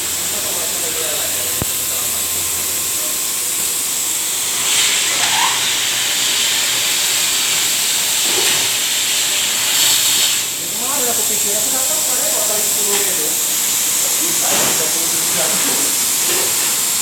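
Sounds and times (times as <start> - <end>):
press machine hissing: 0.0 - 17.0.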